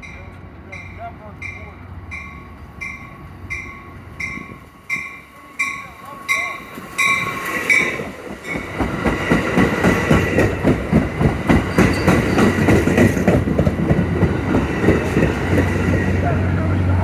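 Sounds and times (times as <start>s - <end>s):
train wheels clicking over rail joints: 2.2s - 16.2s.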